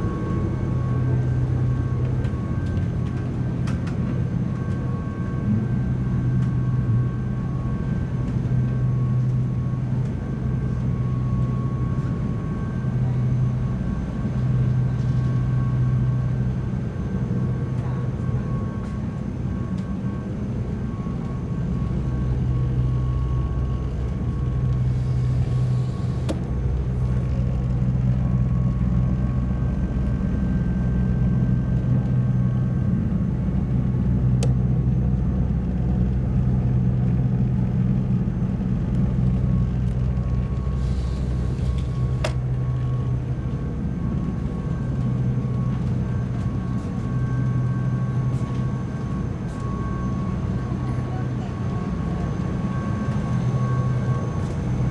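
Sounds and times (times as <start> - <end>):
ferry engine drone: 0.0 - 54.9.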